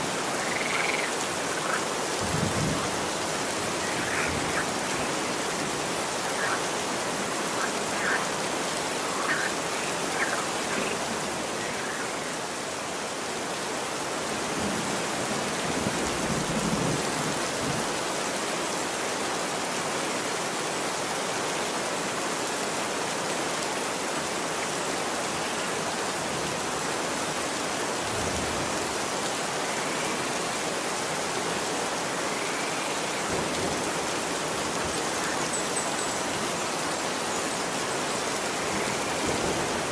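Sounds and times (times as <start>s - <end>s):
rain falling on street: 0.0s - 39.9s.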